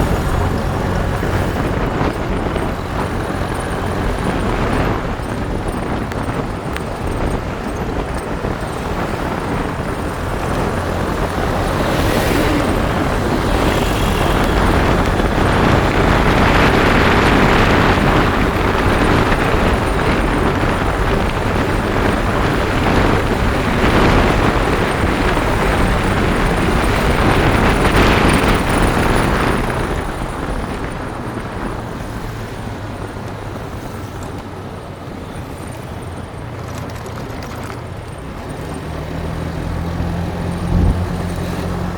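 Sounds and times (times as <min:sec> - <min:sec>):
motorbike engine: 0:00.0 - 0:41.9
road and wind noise: 0:00.0 - 0:41.9.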